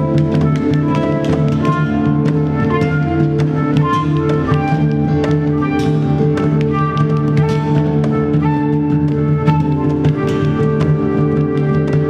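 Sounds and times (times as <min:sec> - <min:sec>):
acoustic guitar: 0:00.0 - 0:12.0
flute: 0:00.0 - 0:12.0
handpan: 0:00.0 - 0:12.0.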